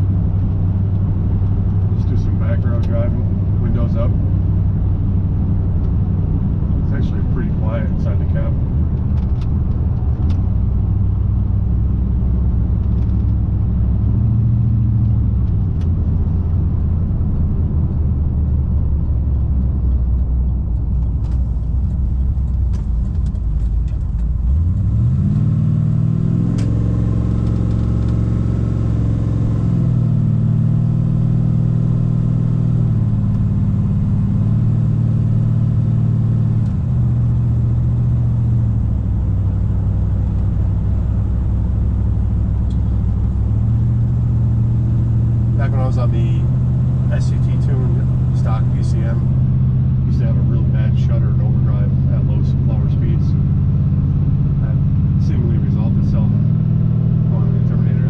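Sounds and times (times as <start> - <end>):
engine droning inside cab: 0.0 - 58.0.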